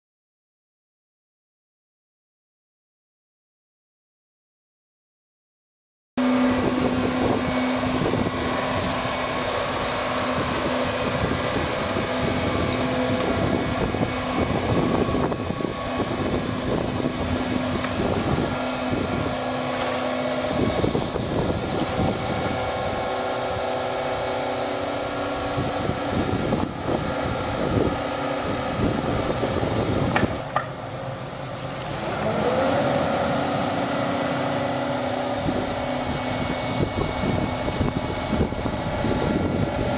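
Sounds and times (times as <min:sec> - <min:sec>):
excavator diesel engine running: 0:06.2 - 0:39.9
hydraulics hum and whine: 0:06.2 - 0:39.9.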